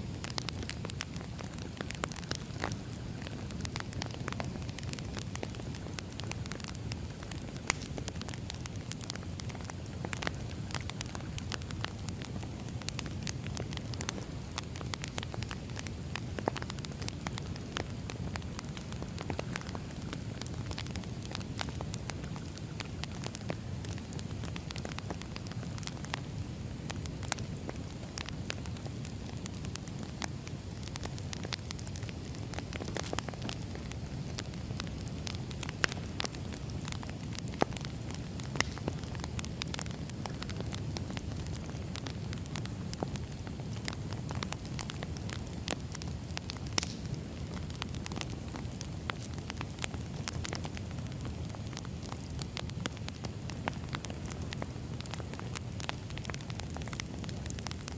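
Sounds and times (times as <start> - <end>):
burning logs crackling and popping: 0.0 - 57.9
low rumble of flames: 0.0 - 57.9.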